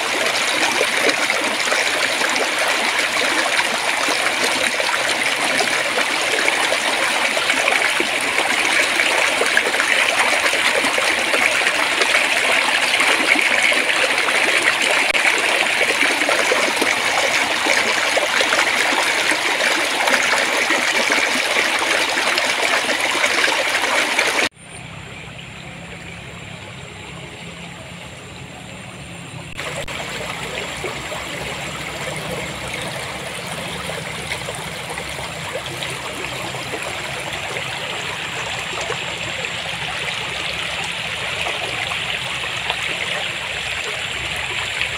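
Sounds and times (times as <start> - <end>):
water babbling in stream: 0.0 - 44.9.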